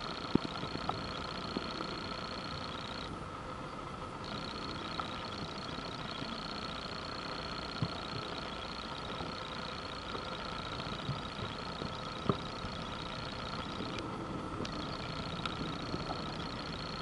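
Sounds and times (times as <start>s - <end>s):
heavy machinery drone: 0.0s - 17.0s.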